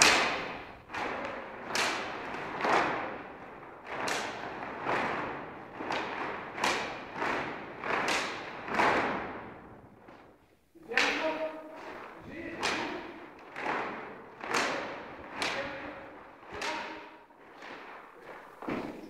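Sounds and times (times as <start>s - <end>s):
cloth flags swishing and flapping: 0.0s - 10.7s, 11.6s - 19.0s.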